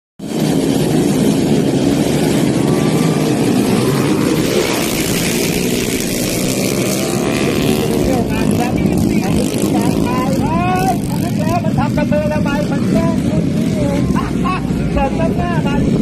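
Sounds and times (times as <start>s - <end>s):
motorcycles revving and accelerating: 0.2s - 16.0s.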